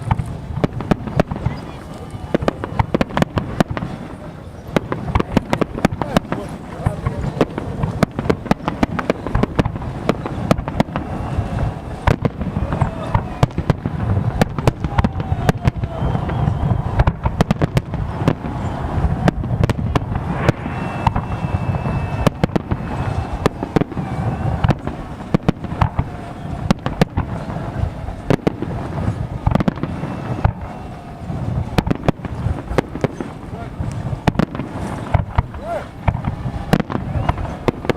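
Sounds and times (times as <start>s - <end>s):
firecrackers banging and crackling: 0.0s - 37.9s.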